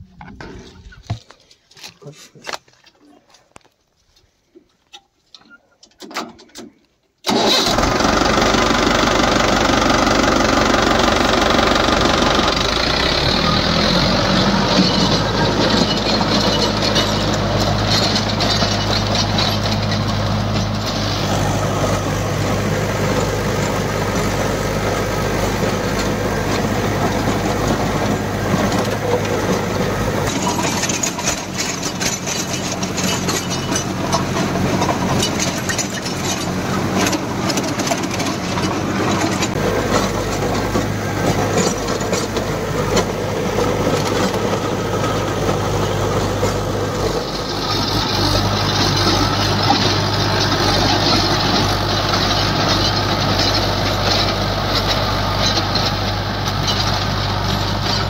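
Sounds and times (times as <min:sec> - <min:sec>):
tractor diesel engine running: 0:06.1 - 0:58.0.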